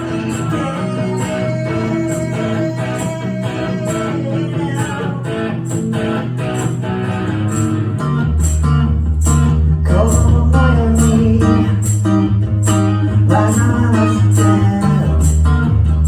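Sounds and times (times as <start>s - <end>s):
guitar strumming chords: 0.0s - 16.0s
heavy bass line: 0.0s - 16.0s.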